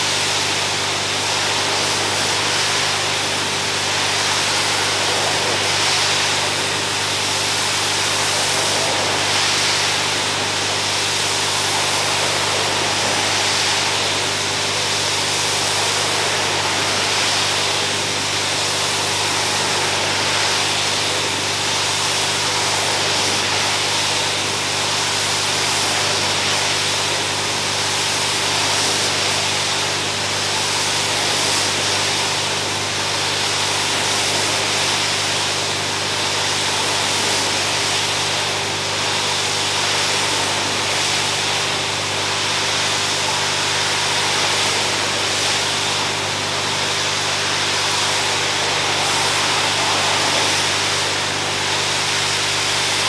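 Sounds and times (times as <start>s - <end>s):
pressure washer spray hissing: 0.0s - 53.0s.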